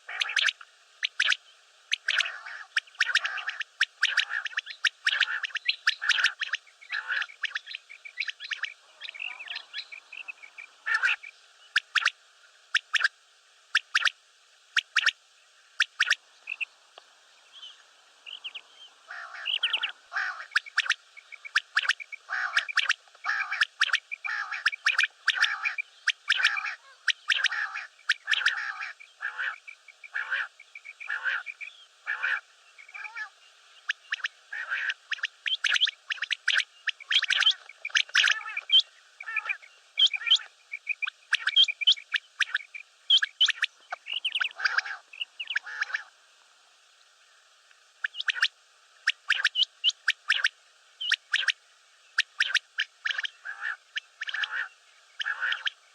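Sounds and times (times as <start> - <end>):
quail calling: 0.0 - 13.1, 13.7 - 14.2, 14.8 - 15.2, 15.8 - 16.7, 17.6 - 46.1, 48.0 - 51.6, 52.2 - 55.8.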